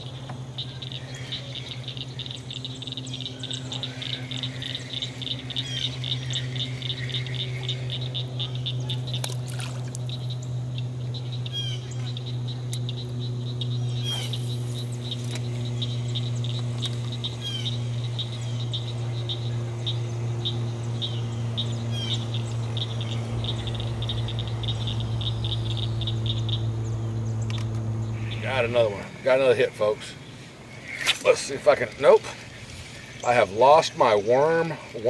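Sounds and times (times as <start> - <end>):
frog chirping calls: 0.0 - 34.4
frogs trilling: 0.0 - 35.0
steady low hum: 0.0 - 35.0.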